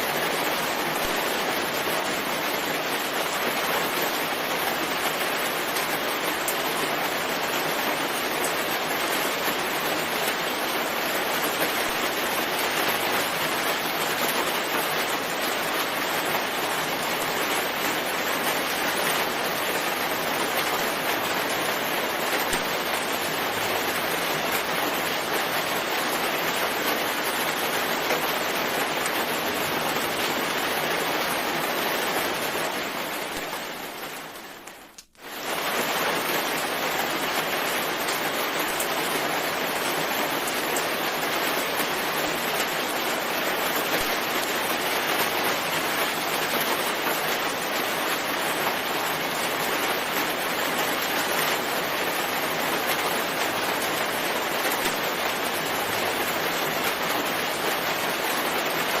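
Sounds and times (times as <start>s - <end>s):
dense rainfall hiss: 0.0s - 59.0s.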